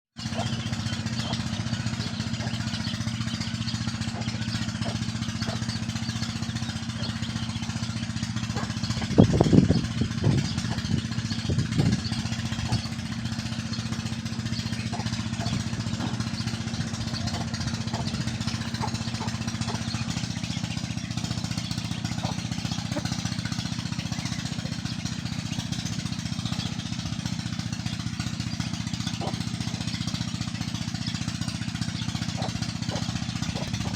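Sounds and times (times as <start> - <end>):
motor humming: 0.2 - 33.9.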